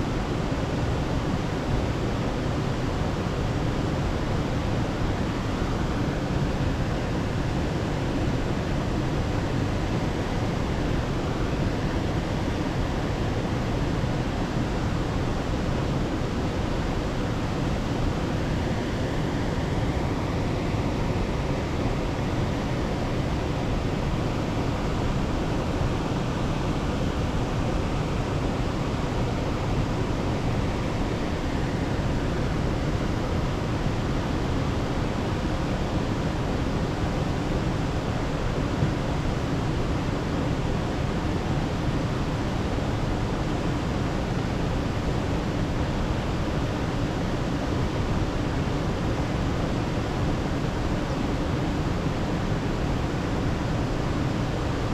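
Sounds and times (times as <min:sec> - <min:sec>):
steady rushing noise: 0:00.0 - 0:54.9.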